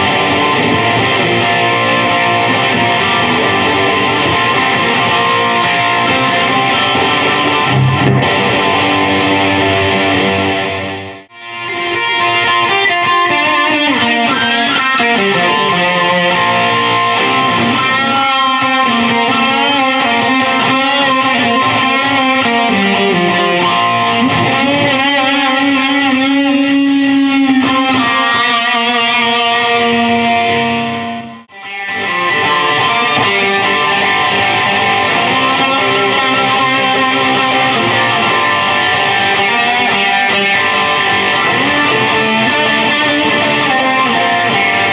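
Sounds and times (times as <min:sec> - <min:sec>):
electric guitar noodling: 0:00.0 - 0:44.9.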